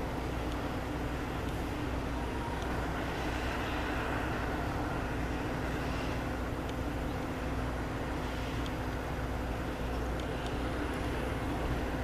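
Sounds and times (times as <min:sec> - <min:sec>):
trackside rumble and hiss: 0:00.0 - 0:12.0.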